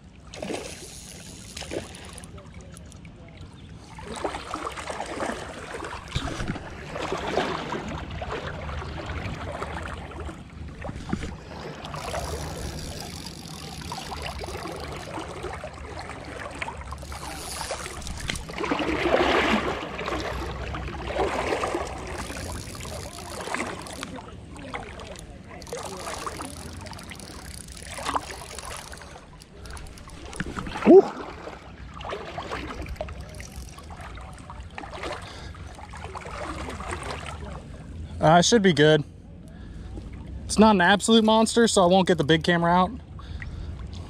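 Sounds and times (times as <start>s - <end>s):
river water splashing: 0.0s - 38.2s.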